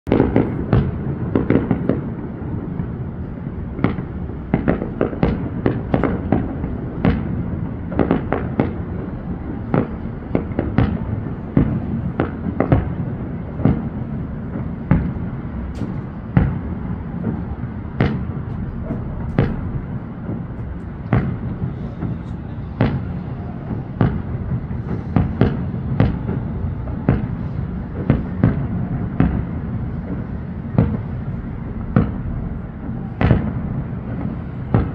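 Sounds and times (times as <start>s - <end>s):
continuous low rumble: 0.1s - 34.9s
fireworks bangs and pops: 0.1s - 34.9s.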